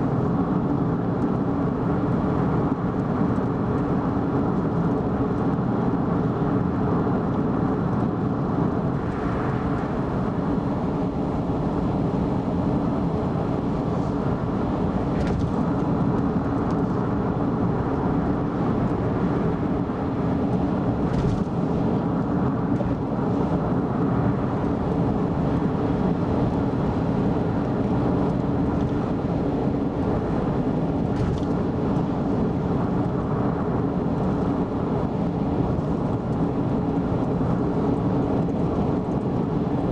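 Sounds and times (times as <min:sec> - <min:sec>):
car driving on expressway: 0:00.0 - 0:39.9.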